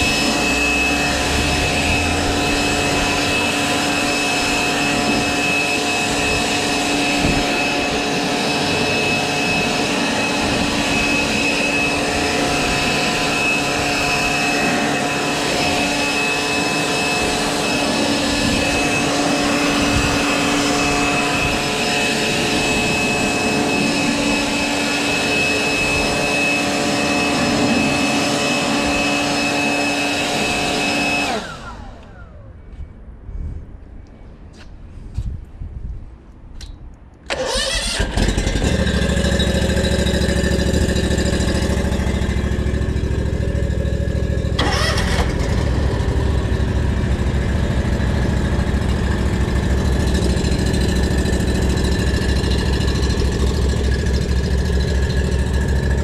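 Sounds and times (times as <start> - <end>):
leaf blower running: 0.0 - 32.5, 37.3 - 56.0.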